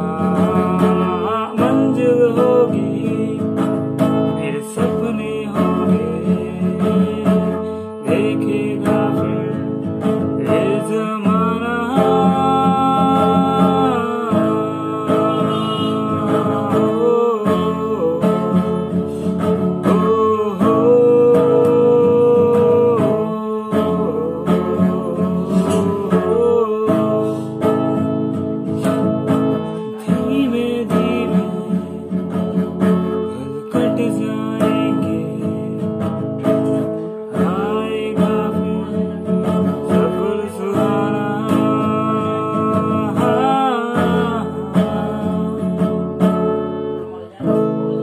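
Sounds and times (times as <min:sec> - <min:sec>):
acoustic guitar strumming: 0:00.0 - 0:48.0
young man singing: 0:00.0 - 0:48.0.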